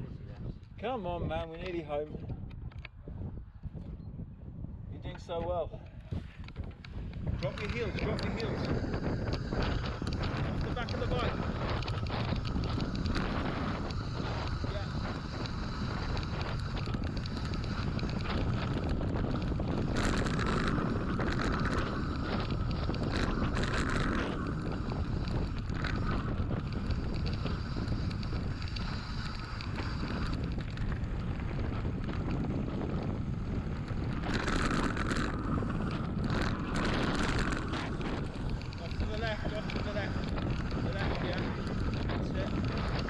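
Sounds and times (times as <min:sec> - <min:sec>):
wind buffeting microphone: 0:00.0 - 0:43.0
bike tyres rumbling over dirt: 0:06.0 - 0:43.0.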